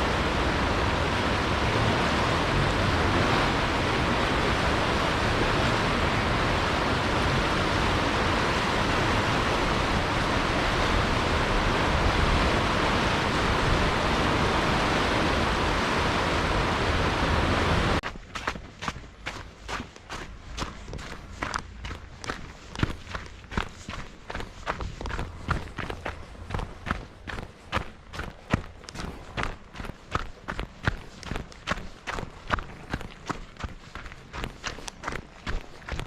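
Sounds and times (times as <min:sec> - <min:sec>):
steady rushing noise: 0:00.0 - 0:36.0.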